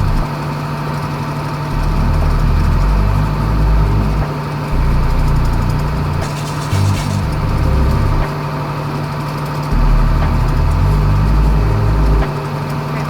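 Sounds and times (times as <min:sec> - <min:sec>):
boat engine running: 0:00.0 - 0:00.3, 0:01.7 - 0:08.7, 0:09.7 - 0:13.0.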